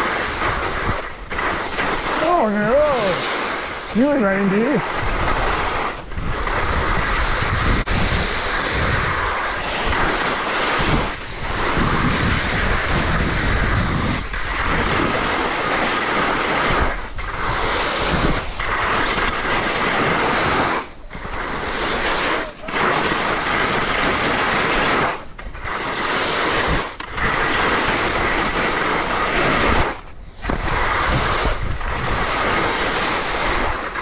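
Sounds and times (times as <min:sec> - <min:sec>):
skis scraping over crusty snow: 0:00.0 - 0:34.0
wind on microphone: 0:00.0 - 0:34.0.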